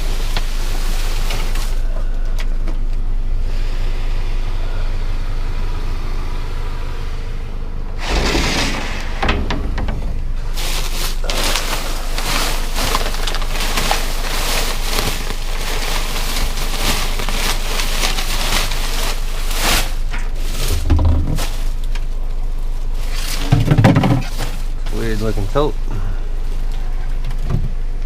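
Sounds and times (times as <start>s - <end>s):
trash rustling and crackling: 0.0s - 3.1s, 7.8s - 27.9s.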